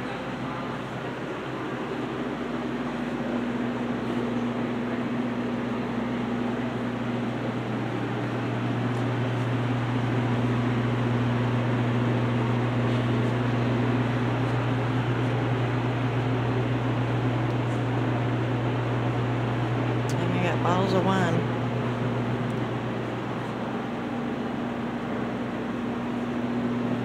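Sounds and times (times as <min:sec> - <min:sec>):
drink coolers humming: 0:00.0 - 0:27.0.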